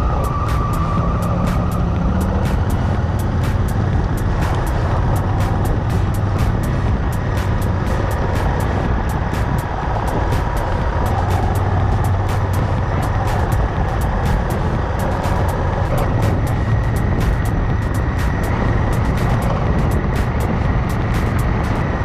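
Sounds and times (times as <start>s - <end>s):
fast even ticking: 0.0s - 22.0s
motorcycle engine droning: 0.0s - 22.0s.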